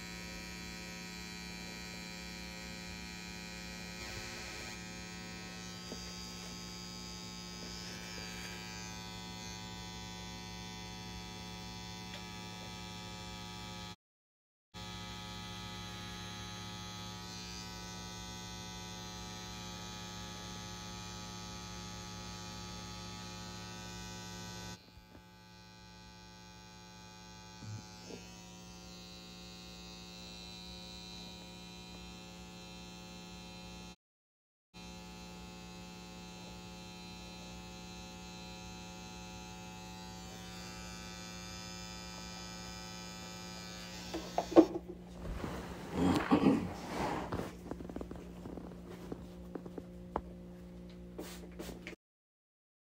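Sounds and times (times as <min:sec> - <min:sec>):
tattoo machine humming: 0:00.0 - 0:14.0, 0:14.8 - 0:34.0, 0:34.8 - 0:45.3, 0:46.0 - 0:51.8.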